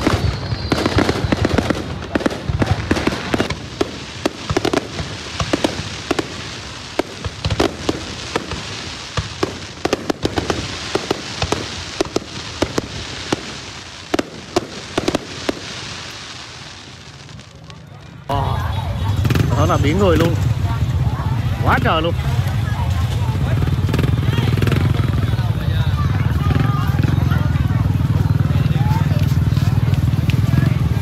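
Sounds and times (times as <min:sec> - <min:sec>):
fireworks bangs: 0:00.0 - 0:31.0
large crowd noise: 0:00.0 - 0:31.0.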